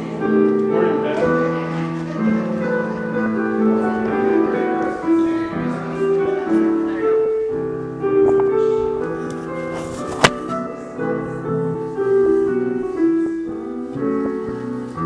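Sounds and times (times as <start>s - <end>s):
slow piano chords and melody: 0.0s - 15.0s.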